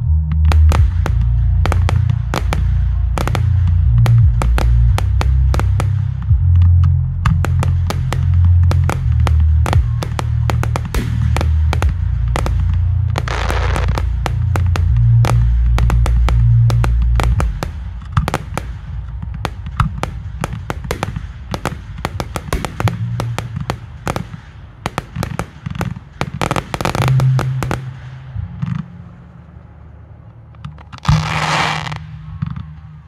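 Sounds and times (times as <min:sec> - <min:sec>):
heavy low firework booms: 0:00.5 - 0:06.6, 0:07.2 - 0:28.8
firework bangs and crackles: 0:00.5 - 0:28.9, 0:30.8 - 0:32.8.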